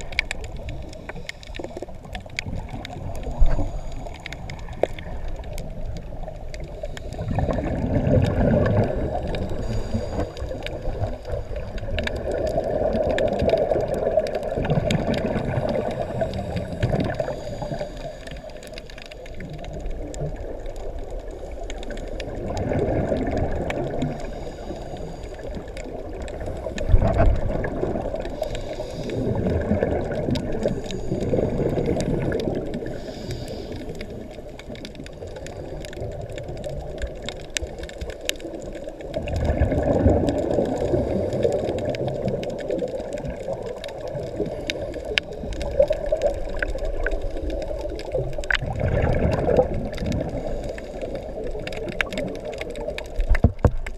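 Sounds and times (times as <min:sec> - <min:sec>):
faint crackle of clicks: 0:00.0 - 0:53.9
gurgling exhaled bubbles: 0:00.0 - 0:53.9.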